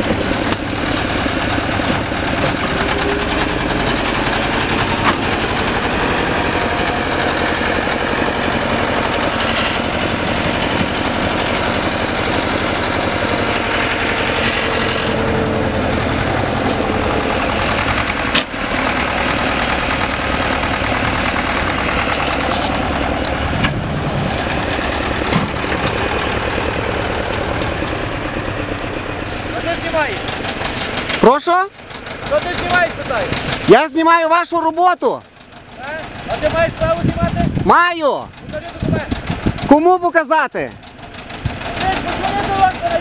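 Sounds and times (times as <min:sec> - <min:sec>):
diesel engine clatter: 0:00.0 - 0:43.0.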